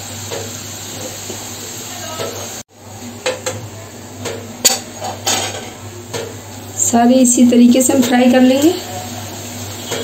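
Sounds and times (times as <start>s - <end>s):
oil sizzling: 0.0s - 10.0s.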